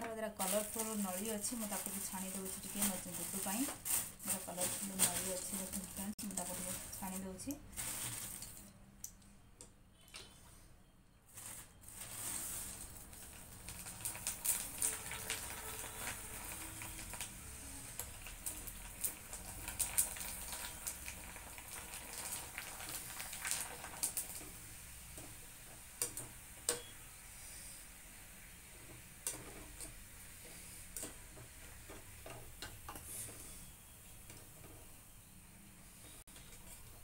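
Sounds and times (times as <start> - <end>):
food sizzling in hot oil: 0.0 - 8.5, 12.0 - 37.0.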